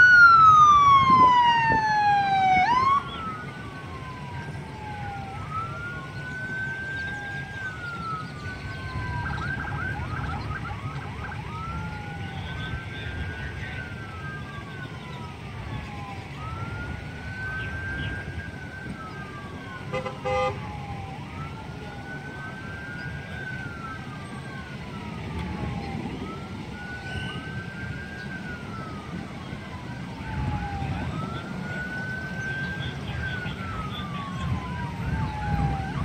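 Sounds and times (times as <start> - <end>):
close police siren: 0.0 - 36.0
distant sirens wailing: 0.0 - 36.0
low rumble of vehicles: 0.0 - 36.0.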